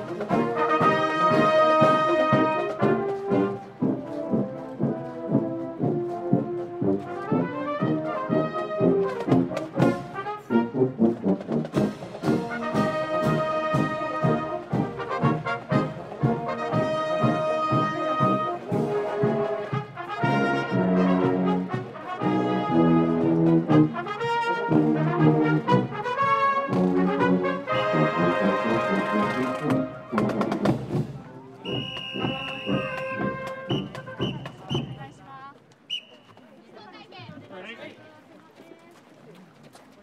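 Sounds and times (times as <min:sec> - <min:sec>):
marching band playing: 0:00.0 - 0:35.5.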